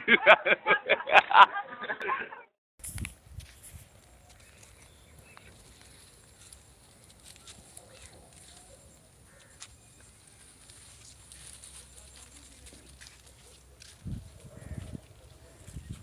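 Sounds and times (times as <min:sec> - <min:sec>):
rustling grass and dry leaves: 0:02.8 - 0:16.0.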